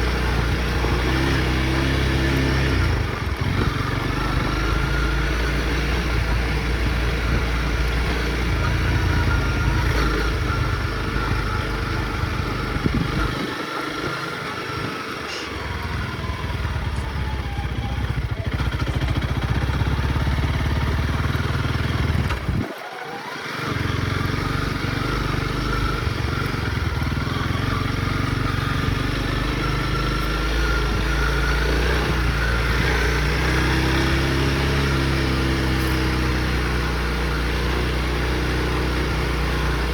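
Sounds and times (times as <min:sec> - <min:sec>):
dirt bike engine rumbling: 0:00.0 - 0:39.9.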